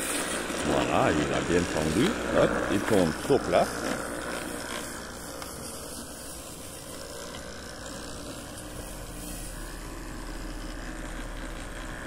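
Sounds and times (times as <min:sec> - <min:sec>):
electric lawnmower cutting grass: 0:00.0 - 0:12.0.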